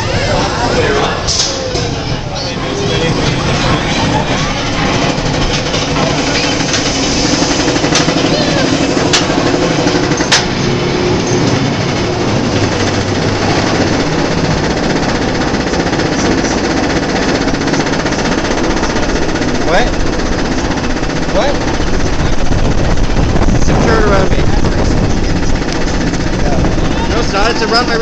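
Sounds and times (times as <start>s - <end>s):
roller coaster lift chain clatter: 0.0s - 28.0s.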